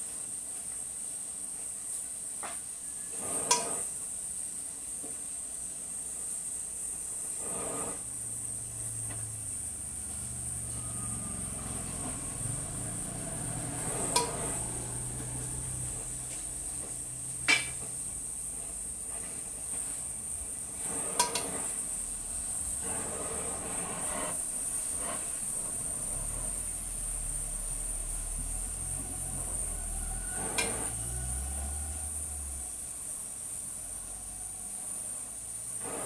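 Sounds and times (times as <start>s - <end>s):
high-pitched hiss: 0.0s - 36.0s.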